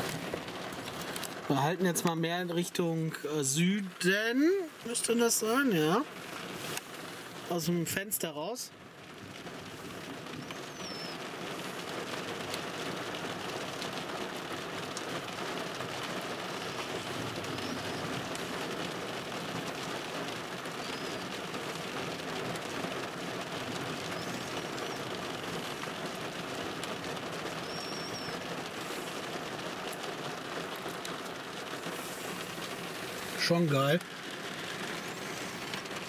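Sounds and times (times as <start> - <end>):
rain falling on car: 0.0 - 36.0
raindrops ticking: 0.0 - 36.0.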